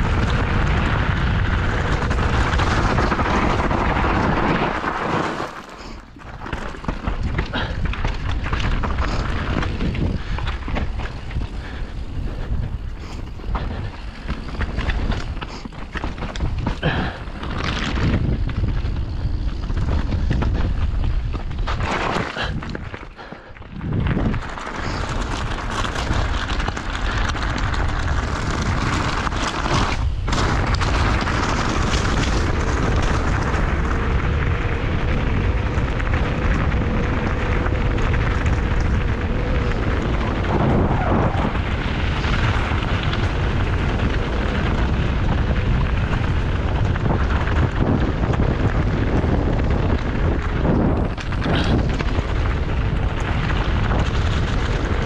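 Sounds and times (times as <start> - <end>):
bike tyres crunching on gravel: 0.0 - 55.0
wind rumble on microphone: 0.0 - 55.0.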